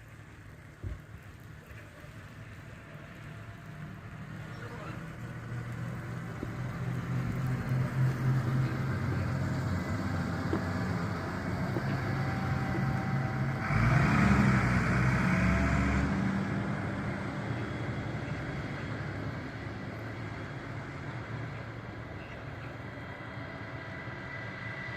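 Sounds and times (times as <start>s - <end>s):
bus engine passing by: 0.0s - 24.9s.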